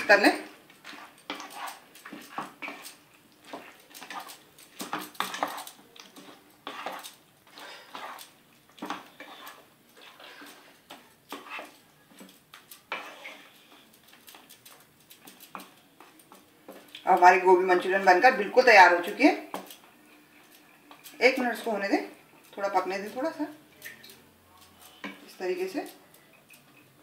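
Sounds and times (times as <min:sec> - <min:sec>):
spatula scraping a wok: 0:00.0 - 0:27.0.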